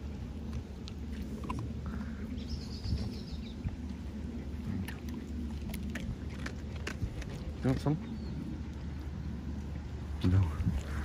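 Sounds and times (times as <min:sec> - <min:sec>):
puppies licking and clicking: 0:00.0 - 0:10.9
low outdoor rumble: 0:00.0 - 0:11.0.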